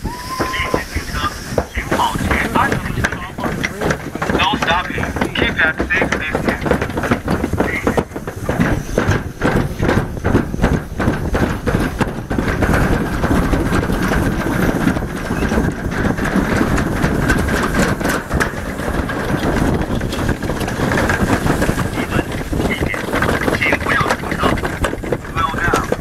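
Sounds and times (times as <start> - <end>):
rhythmic clacking: 0.0 - 26.0
sled rumbling down metal chute: 0.0 - 26.0.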